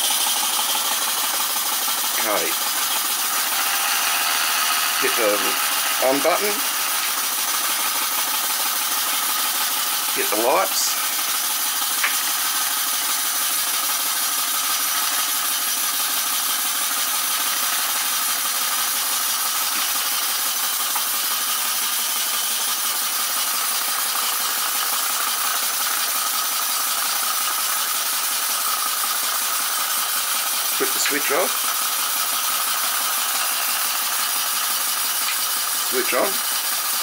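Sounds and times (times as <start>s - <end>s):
model steam engine running: 0.0s - 37.0s.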